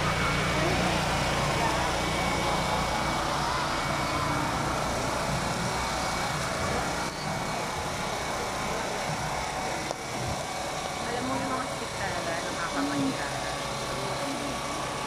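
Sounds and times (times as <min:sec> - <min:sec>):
engine hum: 0:00.0 - 0:15.0
faint crowd voices: 0:00.0 - 0:15.0.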